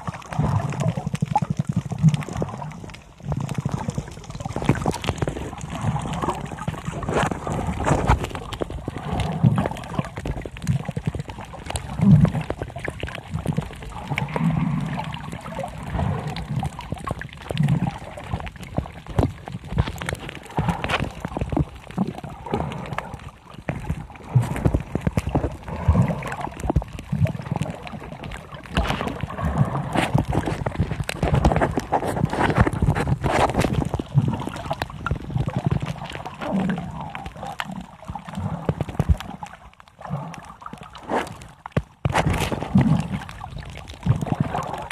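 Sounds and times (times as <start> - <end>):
muffled underwater water sloshing: 0.0 - 44.9.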